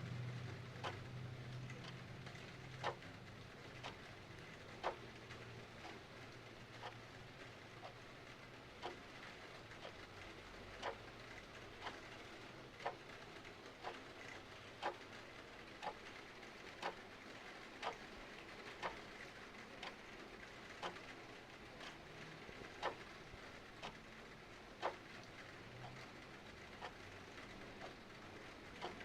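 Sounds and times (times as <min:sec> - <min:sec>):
steady rain hiss: 0:00.0 - 0:29.0
clock ticking: 0:00.8 - 0:29.0.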